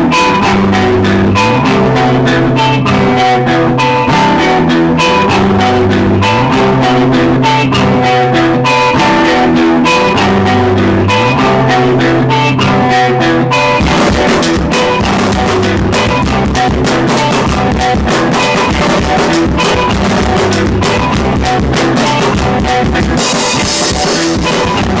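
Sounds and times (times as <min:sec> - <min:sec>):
instrumental guitar and drum music: 0:00.0 - 0:25.0.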